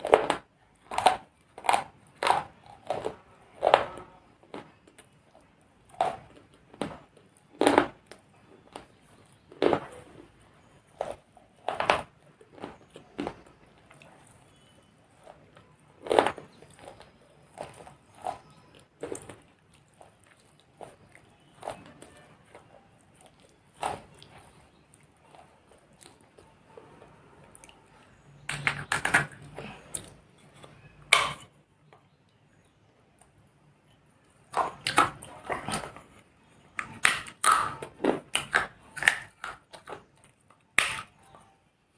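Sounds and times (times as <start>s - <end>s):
person crunching clay: 0.0s - 32.8s, 34.3s - 41.5s.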